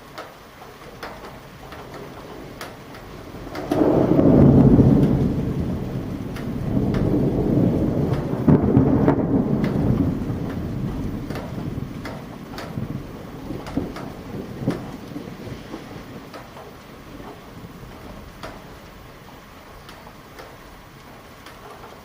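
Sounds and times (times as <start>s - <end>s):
rain falling: 0.0s - 22.0s
rolling rumble of thunder: 0.6s - 22.0s.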